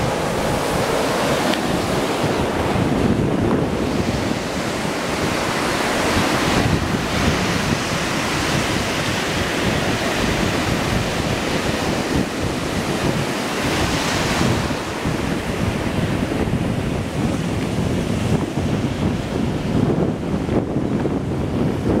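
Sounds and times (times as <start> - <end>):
surf washing up a beach: 0.0 - 22.0
wind buffeting microphone: 0.0 - 22.0.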